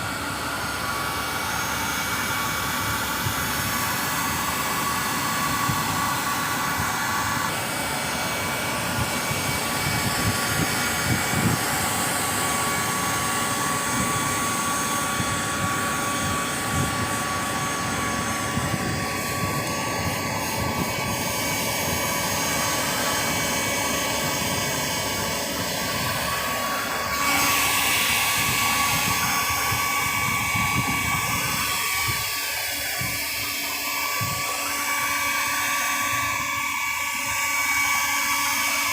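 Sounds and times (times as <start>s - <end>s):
high whine: 0.0s - 38.9s
power tools machine noise: 0.0s - 38.9s.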